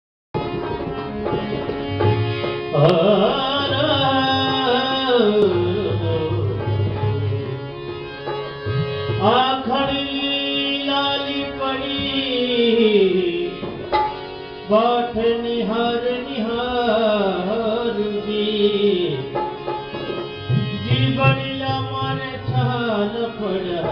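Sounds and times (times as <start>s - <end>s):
instrumental accompaniment: 0.4s - 23.9s.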